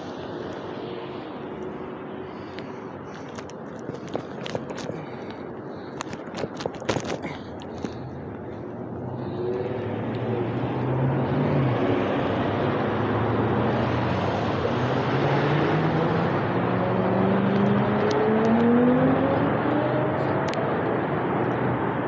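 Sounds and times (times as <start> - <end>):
road noise: 0.0 - 22.0
vehicle engine: 0.0 - 22.0.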